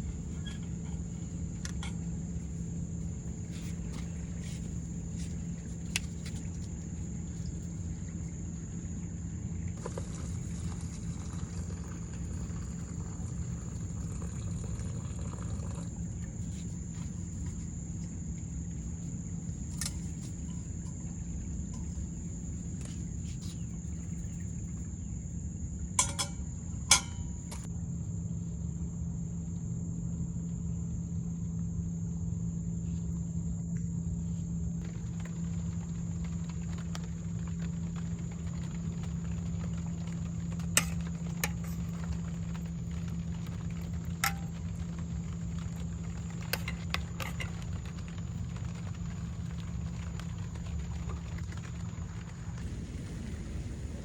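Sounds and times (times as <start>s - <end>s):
crickets chirping: 0.0s - 54.0s
low steady hum: 0.0s - 54.0s.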